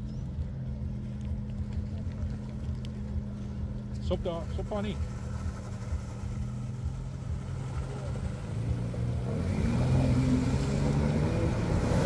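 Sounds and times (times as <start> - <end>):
vehicle engine revving: 0.2 - 12.0.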